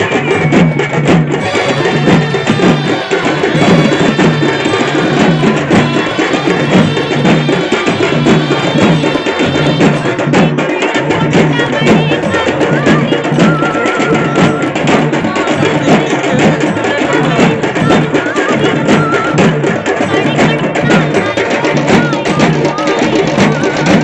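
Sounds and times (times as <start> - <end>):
fast percussive dance music: 0.0 - 24.0.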